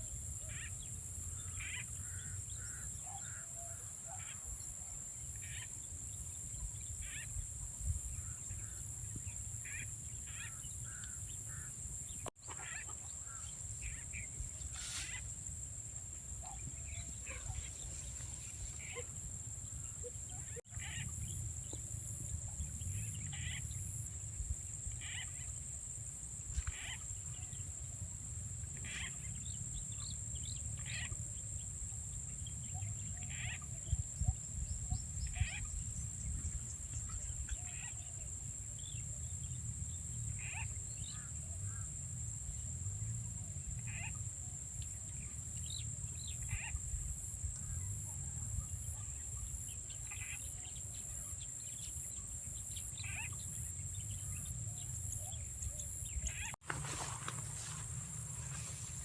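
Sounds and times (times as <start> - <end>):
frogs calling: 0.4 - 4.5, 9.6 - 15.4, 16.2 - 24.1, 24.8 - 31.9, 32.6 - 42.1, 43.4 - 59.0.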